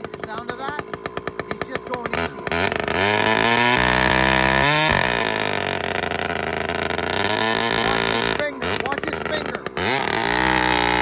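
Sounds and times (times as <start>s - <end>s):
chainsaw cutting a log: 0.0s - 11.0s.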